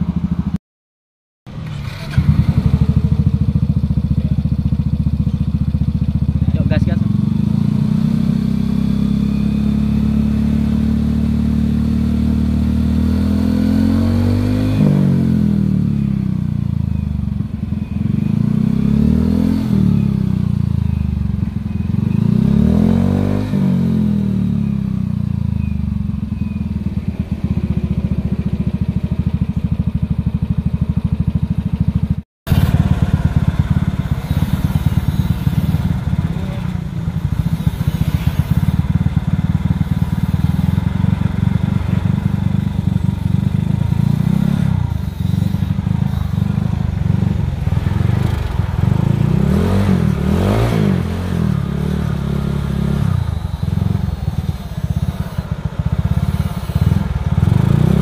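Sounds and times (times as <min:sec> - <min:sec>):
scooter engine idling and revving: 0:00.0 - 0:00.6, 0:01.5 - 0:58.0.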